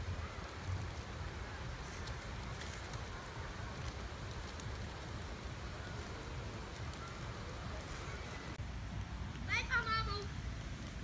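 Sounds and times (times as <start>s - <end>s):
small fire crackling: 0.0s - 11.0s.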